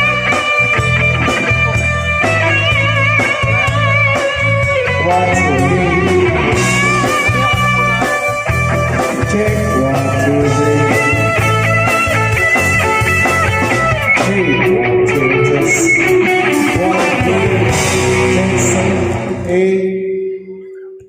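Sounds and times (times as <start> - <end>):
rock blues band playing: 0.0 - 19.9
electric guitar lead with bent notes: 0.0 - 21.0.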